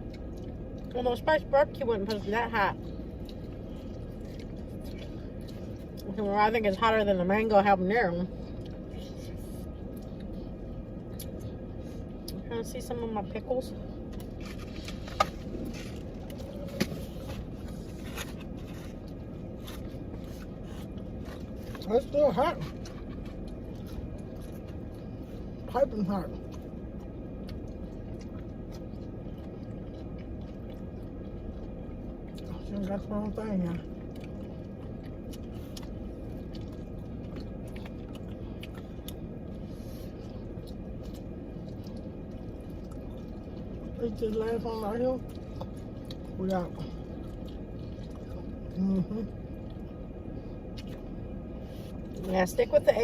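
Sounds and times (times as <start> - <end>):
chewing crispy food: 0.0 - 52.6
low steady rumble: 0.0 - 53.0.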